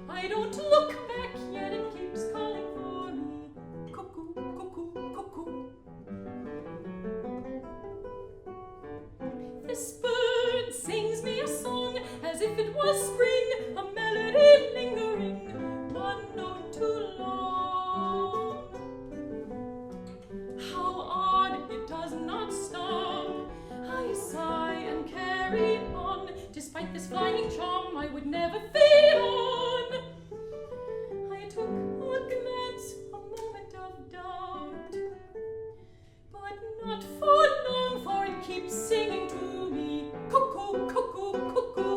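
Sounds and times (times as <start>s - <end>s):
woman singing with vibrato: 0.0s - 5.8s, 9.6s - 18.8s, 20.6s - 30.2s, 31.3s - 35.0s, 36.4s - 41.9s
plucked guitar: 0.0s - 41.9s.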